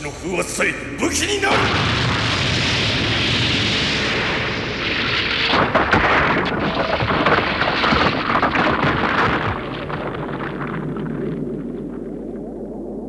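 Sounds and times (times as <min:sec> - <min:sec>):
explosion blast rush: 0:00.0 - 0:13.0
crackle of shattering rock and debris: 0:01.4 - 0:13.0.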